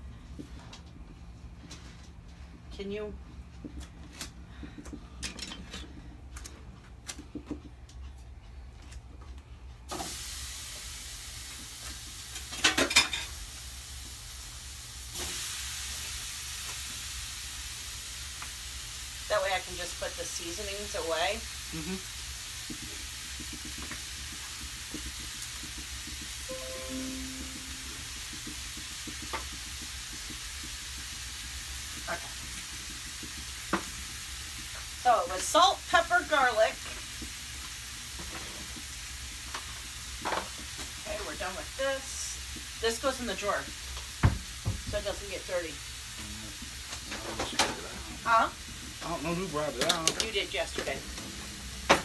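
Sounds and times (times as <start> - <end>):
meat sizzling in a frying pan: 9.9 - 52.0.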